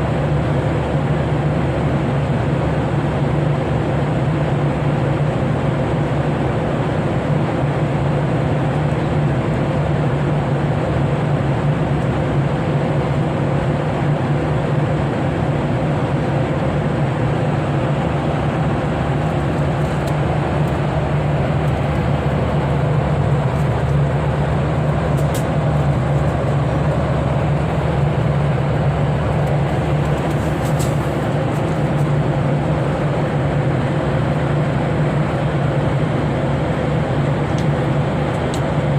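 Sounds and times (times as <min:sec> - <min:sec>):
airliner cabin engine noise: 0:00.0 - 0:38.9.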